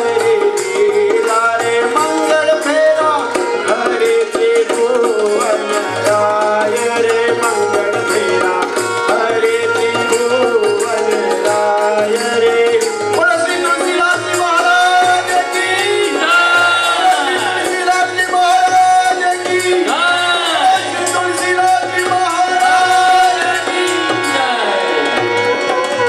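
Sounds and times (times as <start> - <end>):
hand drum beat: 0.0 - 26.0.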